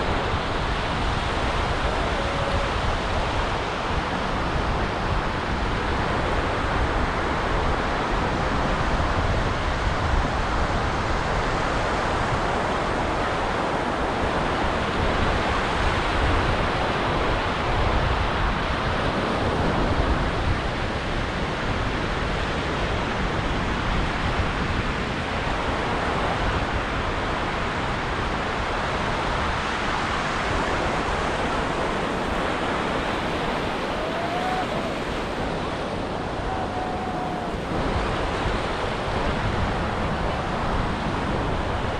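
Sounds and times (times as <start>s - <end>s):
ocean surf on a beach: 0.0s - 41.9s.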